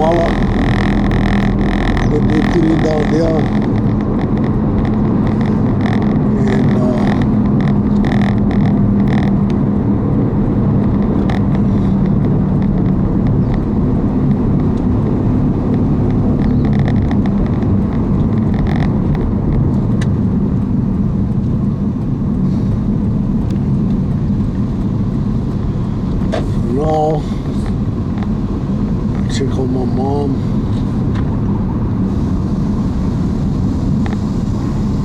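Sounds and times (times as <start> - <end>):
road rumble: 0.0 - 35.0
vehicle engine hum: 0.0 - 35.0.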